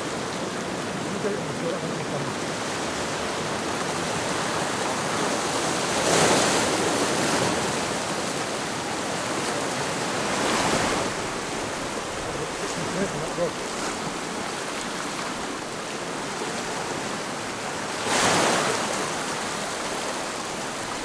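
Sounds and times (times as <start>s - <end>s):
surf washing against rocks: 0.0s - 21.0s.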